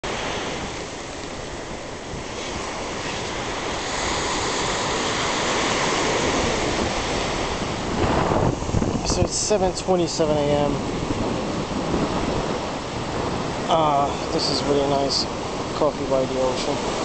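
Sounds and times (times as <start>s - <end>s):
waves breaking on sandy beach: 0.0s - 17.0s.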